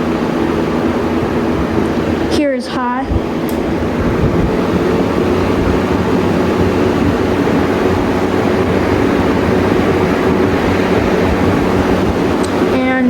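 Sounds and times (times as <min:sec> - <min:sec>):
box fan rushing air: 0:00.0 - 0:13.0
faint hum: 0:00.0 - 0:13.0.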